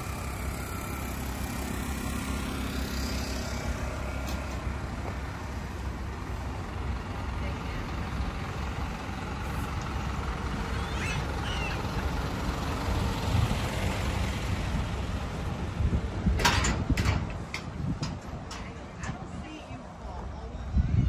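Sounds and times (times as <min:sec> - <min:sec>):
truck engine driving past: 0:00.0 - 0:18.5.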